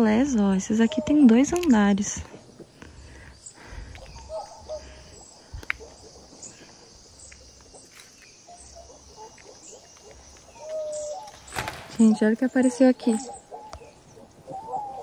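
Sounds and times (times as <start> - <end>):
bird calls: 0.2 - 15.0.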